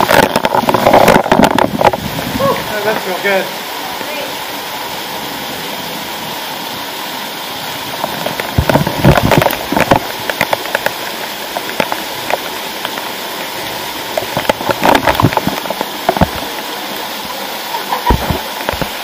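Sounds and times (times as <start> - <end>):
close water splattering: 0.0 - 19.0
waterfall rushing into pool: 0.0 - 19.0.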